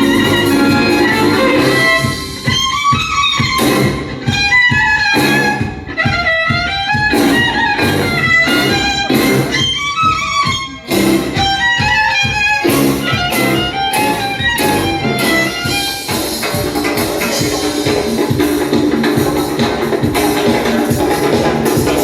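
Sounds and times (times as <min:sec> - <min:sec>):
violin melody with accompaniment: 0:00.0 - 0:18.4.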